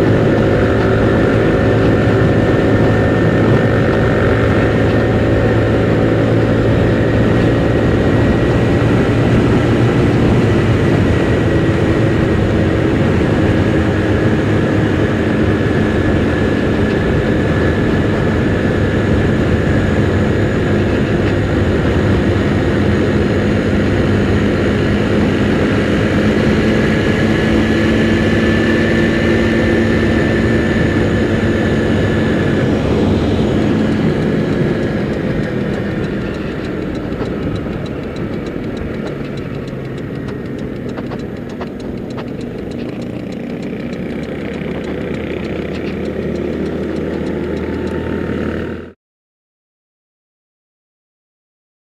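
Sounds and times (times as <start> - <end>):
wind rush: 0.0 - 43.0
scooter engine running: 0.0 - 49.0.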